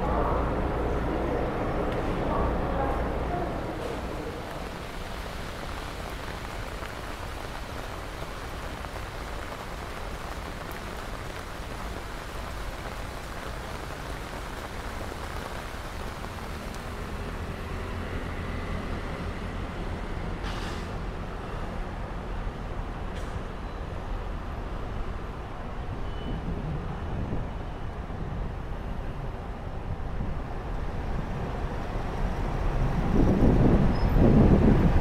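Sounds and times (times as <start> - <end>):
heavy rain on pavement: 0.0 - 35.0.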